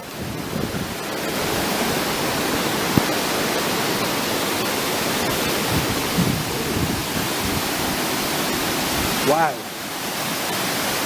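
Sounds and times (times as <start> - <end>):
fast-flowing water rushing: 0.0 - 11.0.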